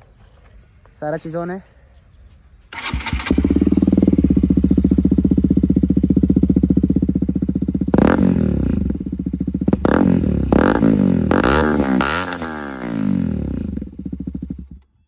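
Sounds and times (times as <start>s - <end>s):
motorcycle engine idling and revving: 2.6s - 15.0s.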